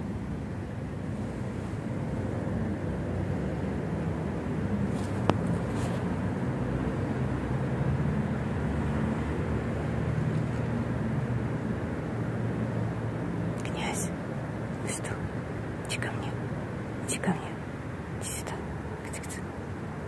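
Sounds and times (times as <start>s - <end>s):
outdoor low rumble: 0.0s - 20.0s.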